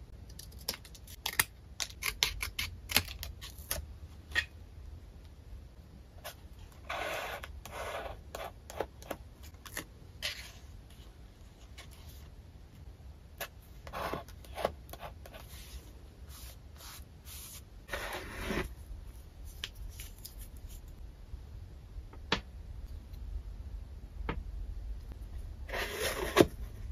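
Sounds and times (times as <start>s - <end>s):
steady low hum: 3.9s - 26.9s.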